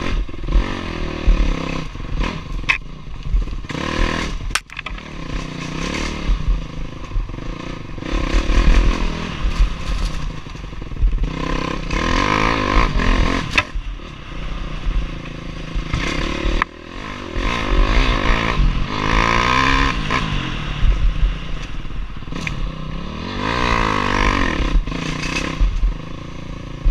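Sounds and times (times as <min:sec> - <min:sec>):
bike rattling over rough trail: 0:00.0 - 0:26.9
dirt bike engine revving: 0:00.0 - 0:26.9.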